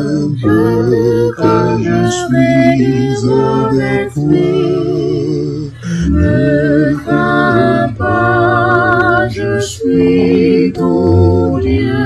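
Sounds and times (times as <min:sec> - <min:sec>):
group singing a hymn a cappella: 0:00.0 - 0:12.0.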